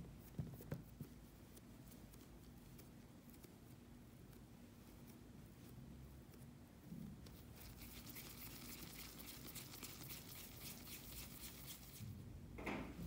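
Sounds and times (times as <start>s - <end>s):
dough crackling and squishing: 0.0s - 12.2s.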